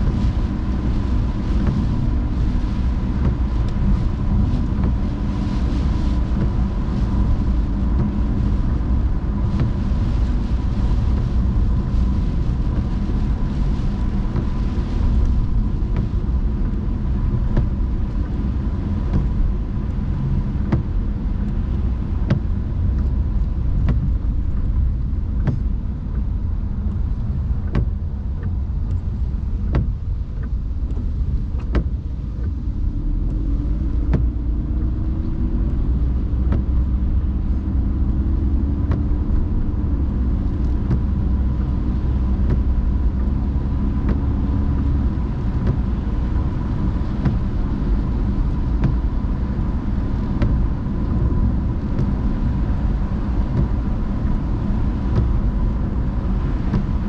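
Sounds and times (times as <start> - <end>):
car tyres and engine rumble: 0.0 - 57.0
sharp ticks of rain: 0.0 - 57.0.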